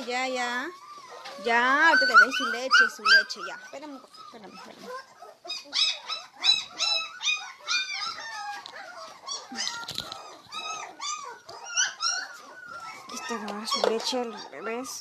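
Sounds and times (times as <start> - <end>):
puppies whining and yelping: 0.0 - 15.0.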